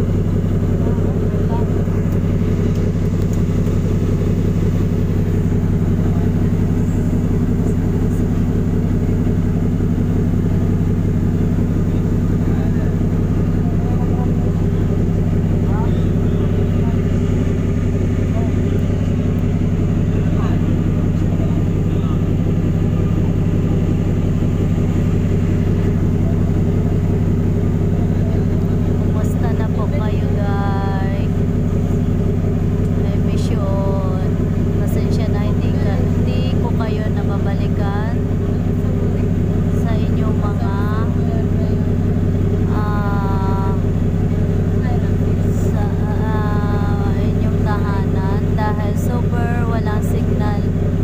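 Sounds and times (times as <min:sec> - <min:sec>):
ferry engines droning: 0:00.0 - 0:51.0.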